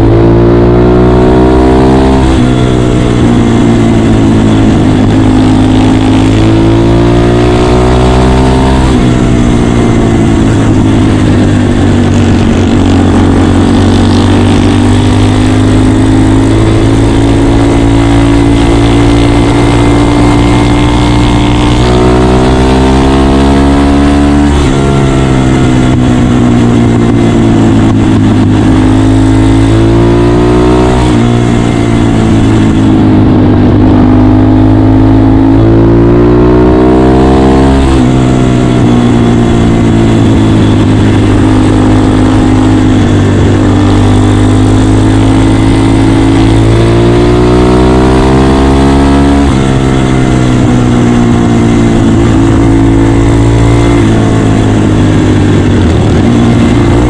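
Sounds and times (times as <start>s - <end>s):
motorcycle engine revving: 0.0s - 57.0s
steady rushing noise: 0.0s - 57.0s.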